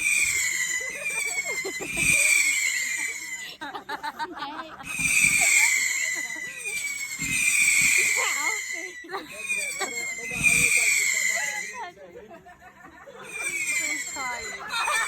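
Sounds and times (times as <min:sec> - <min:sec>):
firework whistles: 0:00.0 - 0:03.7, 0:04.8 - 0:12.0, 0:13.2 - 0:15.0.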